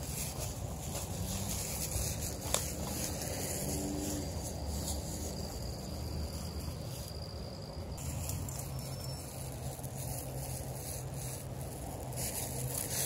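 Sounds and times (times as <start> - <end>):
footsteps through grass: 0.0 - 13.0.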